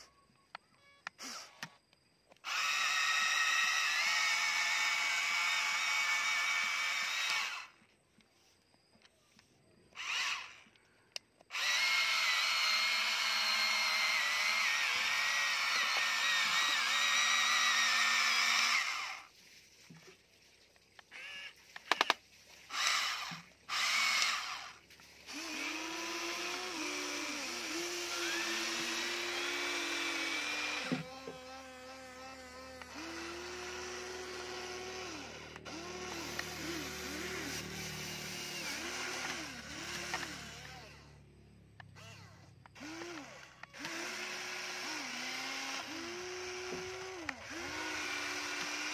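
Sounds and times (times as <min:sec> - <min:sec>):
toy electric motors whining: 0:00.0 - 0:19.4, 0:21.0 - 0:48.9.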